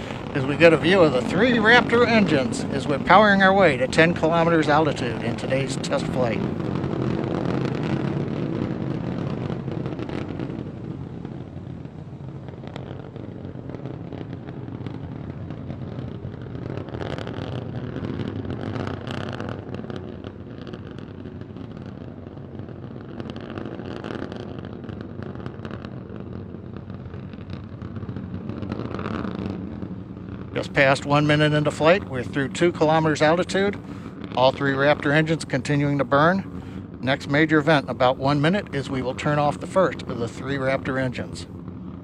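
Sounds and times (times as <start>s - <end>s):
rocket engines rumbling: 0.0s - 42.0s.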